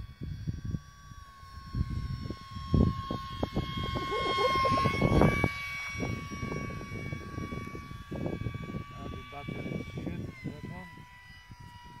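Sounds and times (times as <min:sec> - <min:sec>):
model jet fan whining: 0:00.0 - 0:12.0
wind buffeting microphone: 0:00.0 - 0:12.0.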